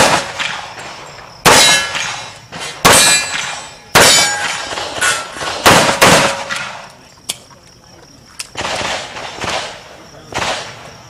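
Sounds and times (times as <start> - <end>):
pistol shots ringing: 0.0 - 6.9, 8.5 - 10.9.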